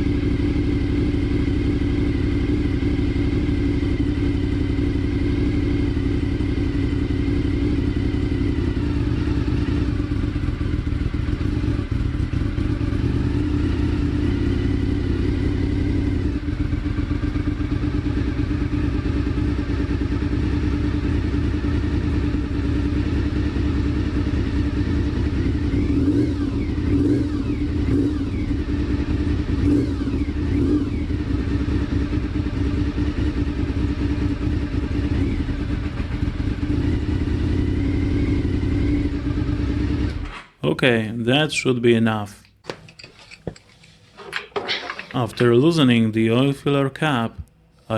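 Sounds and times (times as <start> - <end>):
motorcycle engine idling and revving: 0.0 - 40.6, 42.4 - 47.7.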